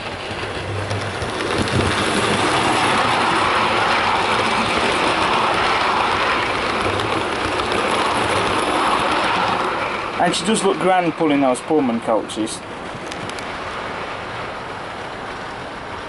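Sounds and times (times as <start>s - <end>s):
model train wheels rolling on track: 0.0s - 16.0s.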